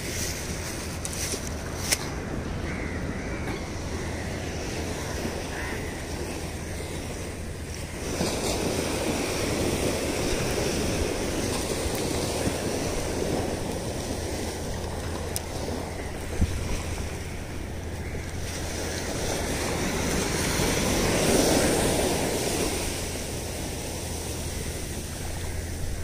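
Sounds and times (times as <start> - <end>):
small waves washing onto beach: 0.0 - 26.0
wind buffeting microphone: 0.0 - 26.0.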